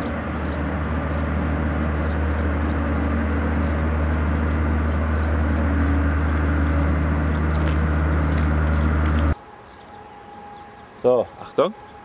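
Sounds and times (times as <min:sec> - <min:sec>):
low droning machine hum: 0:00.0 - 0:11.0.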